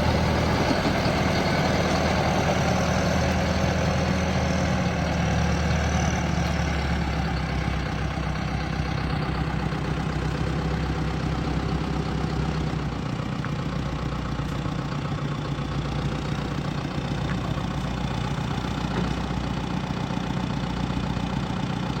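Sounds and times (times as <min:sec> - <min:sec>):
diesel tractor engine idling: 0:00.0 - 0:22.0.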